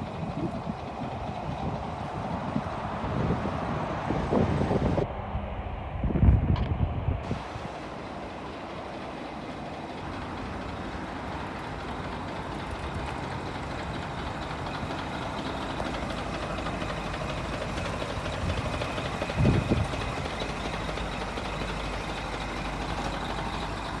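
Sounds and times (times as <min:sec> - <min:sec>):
diesel truck engine idling: 0:00.0 - 0:05.8, 0:07.2 - 0:24.0.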